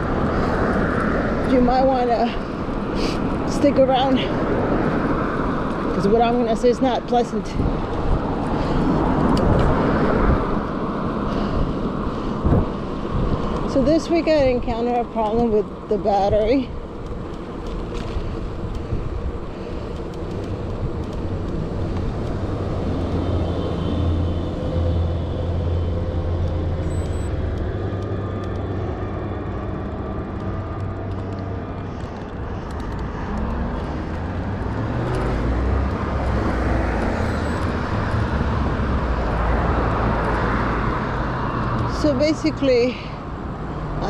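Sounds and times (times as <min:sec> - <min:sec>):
cars passing nearby: 0:00.0 - 0:44.0
road traffic noise: 0:00.0 - 0:44.0.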